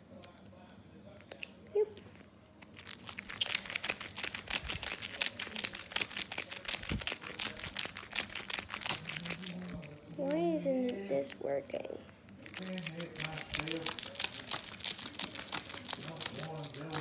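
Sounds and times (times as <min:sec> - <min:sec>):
plastic wrapper crinkling and slapping: 0:02.0 - 0:17.0.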